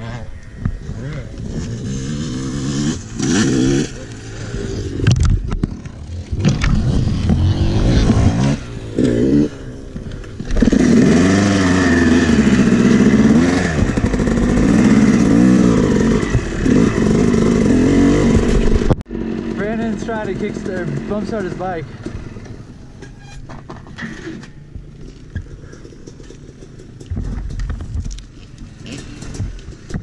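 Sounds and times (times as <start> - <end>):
dirt bike engine revving: 0.0 - 22.8, 28.7 - 30.0.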